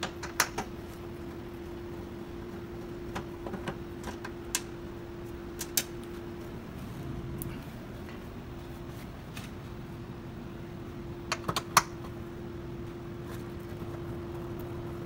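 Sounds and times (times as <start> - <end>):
steady tonal hum: 0.0 - 15.0.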